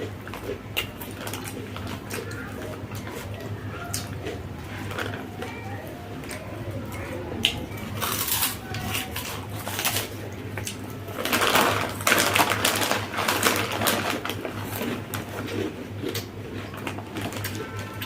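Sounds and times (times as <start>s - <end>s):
crunching eating noises: 0.0s - 18.0s.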